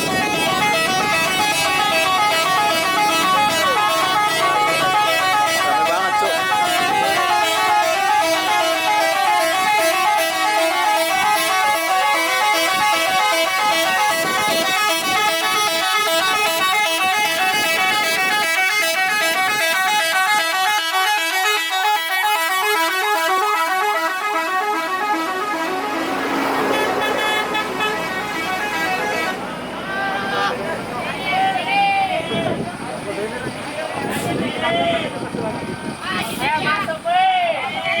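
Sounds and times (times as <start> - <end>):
bus multi-tone horn melody: 0.0 - 31.0.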